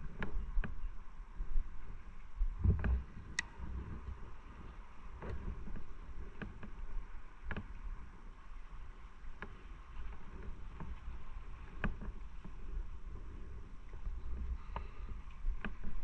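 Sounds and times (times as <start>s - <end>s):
motorcycle low rumble: 0.0s - 16.0s
wind noise: 0.0s - 16.0s.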